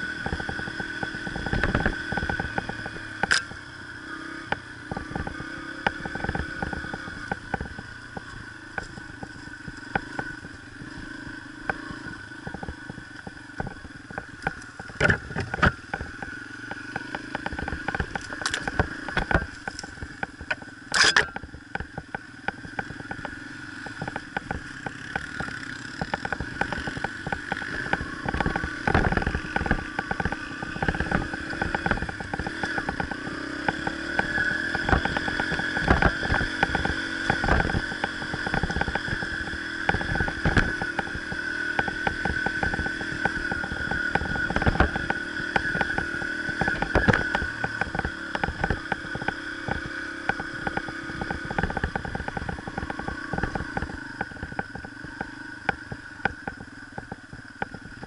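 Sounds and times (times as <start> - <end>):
bike knocks and rattles: 0.0 - 58.0
dirt bike engine running: 0.0 - 58.0.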